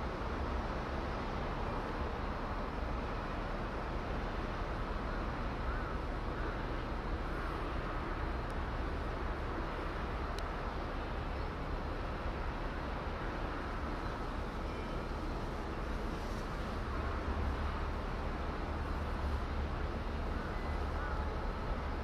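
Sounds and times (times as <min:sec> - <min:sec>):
continuous rumbling hiss: 0:00.0 - 0:22.0.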